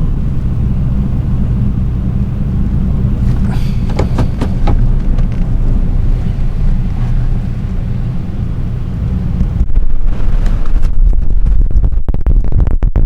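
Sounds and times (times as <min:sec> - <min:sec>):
truck driving rumble: 0:00.0 - 0:11.5.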